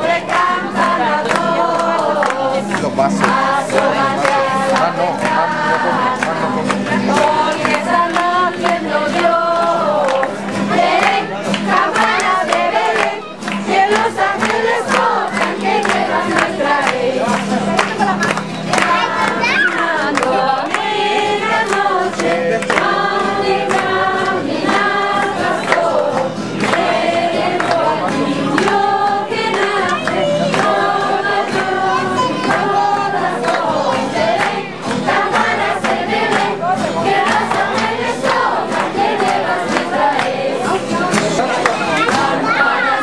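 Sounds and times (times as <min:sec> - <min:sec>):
children and adults singing: 0:00.0 - 0:43.0
rhythmic strummed strokes: 0:00.0 - 0:43.0.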